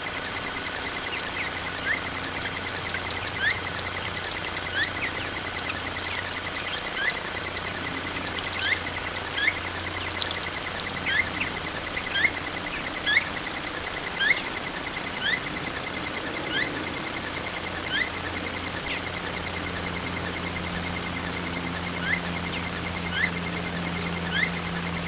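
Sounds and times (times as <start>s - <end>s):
faint rapid high ticking: 0.0s - 25.0s
low steady hum: 0.0s - 25.0s
bird chirping: 0.5s - 25.0s.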